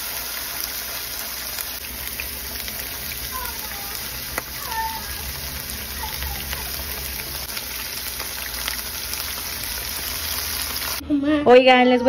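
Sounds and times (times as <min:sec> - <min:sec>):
chicken sizzling in a frying pan: 0:00.0 - 0:11.0.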